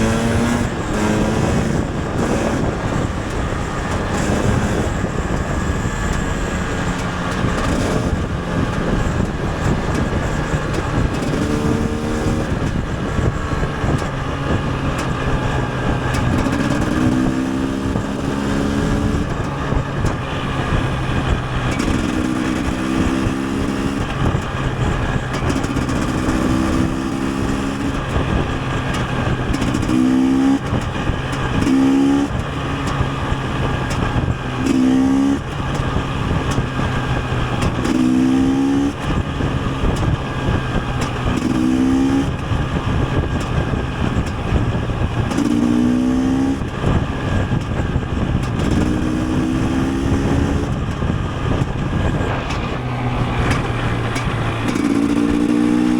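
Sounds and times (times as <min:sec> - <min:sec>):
road and wind noise: 0:00.0 - 0:55.9
two-stroke motorcycle engine revving: 0:00.0 - 0:55.9.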